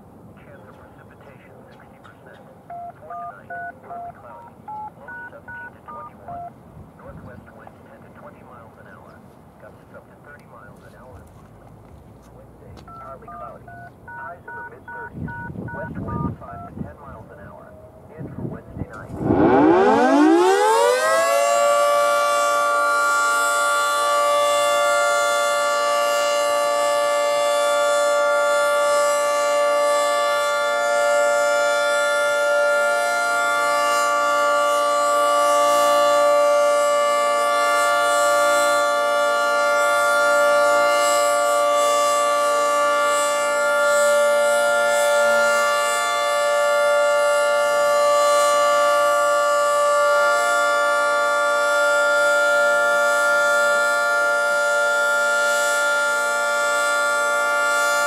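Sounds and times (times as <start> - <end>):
two-tone warning siren: 2.7 - 7.6, 12.3 - 58.0.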